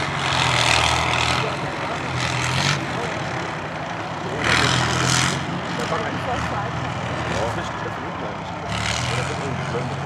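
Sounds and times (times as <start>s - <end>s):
tank diesel engine running: 0.0s - 10.0s.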